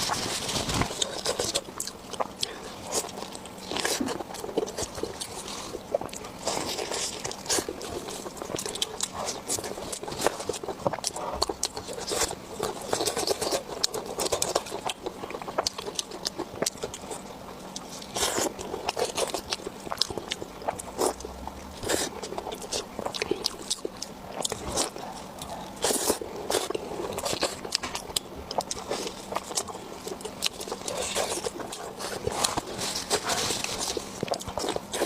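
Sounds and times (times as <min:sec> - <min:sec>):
chewing mouth sounds: 0:00.0 - 0:35.0.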